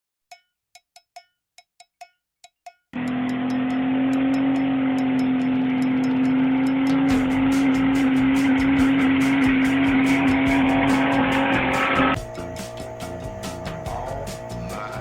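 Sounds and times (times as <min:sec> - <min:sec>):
light ticking beat: 0:00.3 - 0:15.0
loud steady drone: 0:03.0 - 0:15.0.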